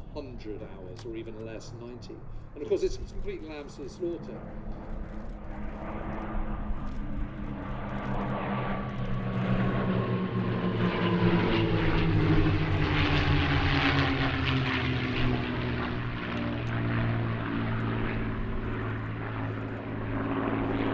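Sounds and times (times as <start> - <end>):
propeller plane flying past: 0.0 - 20.9.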